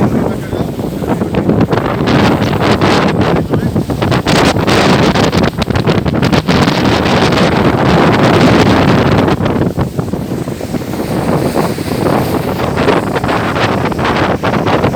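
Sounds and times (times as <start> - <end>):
boat engine: 0.0 - 14.9
water rushing: 0.0 - 14.9
wind buffeting microphone: 0.0 - 14.9.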